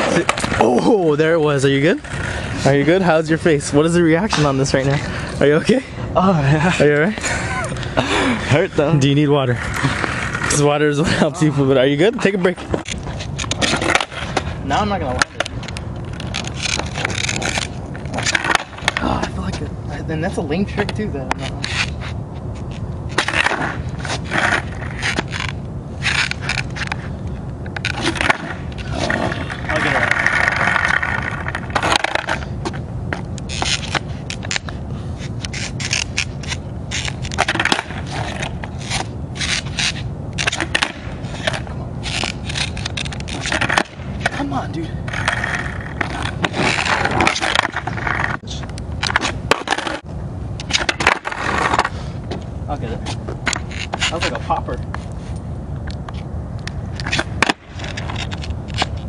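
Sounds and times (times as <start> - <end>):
skateboard scrapes: 0.0 - 19.7, 20.6 - 55.5, 56.1 - 59.0
skateboard wheels rolling on asphalt: 0.0 - 59.0.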